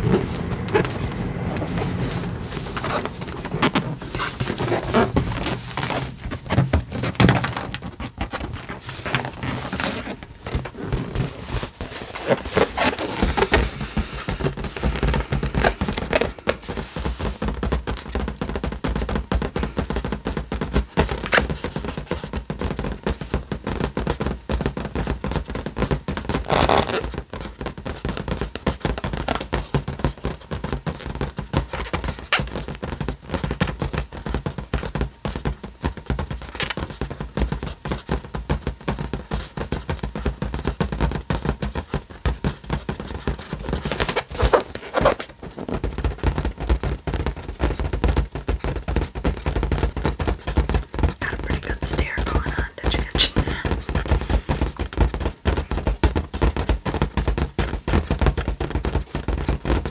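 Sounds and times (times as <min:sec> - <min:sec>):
balloon squeaking and rubbing: 0:00.0 - 0:59.9.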